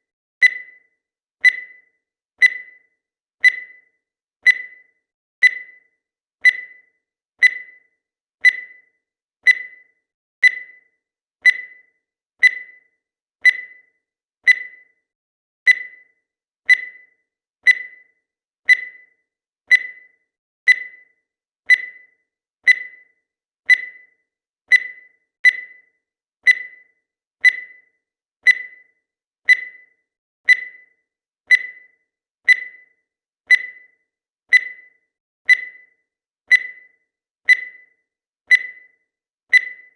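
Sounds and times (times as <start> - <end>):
timer ticking beeps: 0.0 - 39.9.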